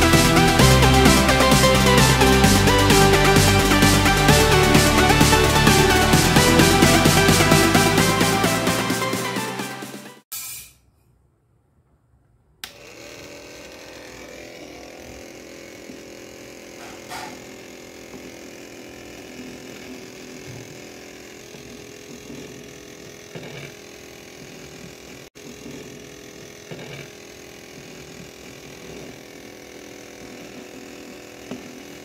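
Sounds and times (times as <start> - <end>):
small electric motor humming: 0.0 - 9.5, 12.6 - 32.0.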